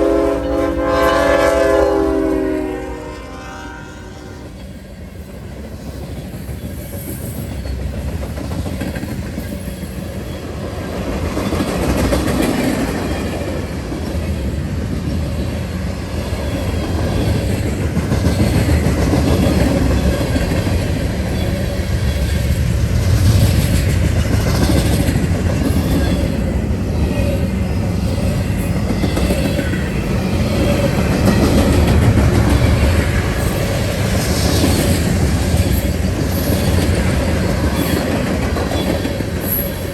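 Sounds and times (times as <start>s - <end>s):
train wheels clicking over rail joints: 4.6s - 39.9s.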